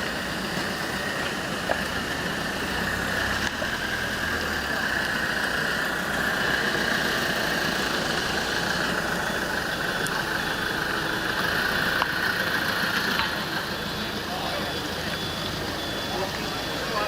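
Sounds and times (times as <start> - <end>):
miniature train rumbling: 0.0 - 17.0.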